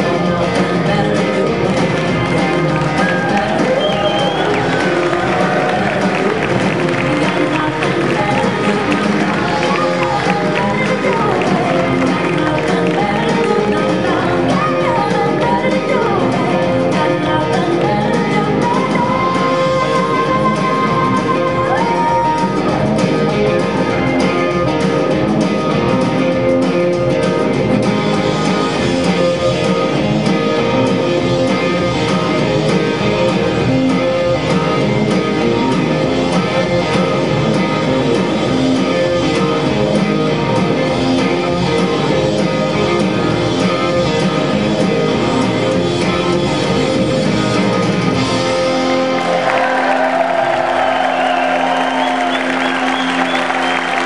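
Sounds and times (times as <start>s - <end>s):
country dance music with guitar: 0.0s - 54.0s.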